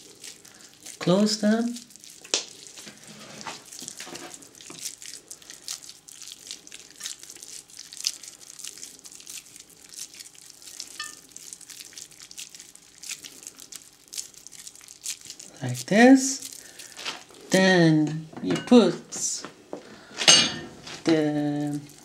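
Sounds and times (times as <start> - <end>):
minced meat squishing between hands: 0.0 - 17.7, 20.8 - 22.0.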